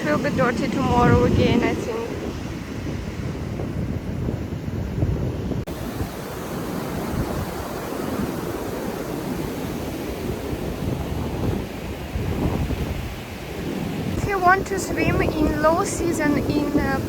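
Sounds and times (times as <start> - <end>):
surf breaking on a beach: 0.0 - 17.0
wind buffeting microphone: 0.0 - 17.0.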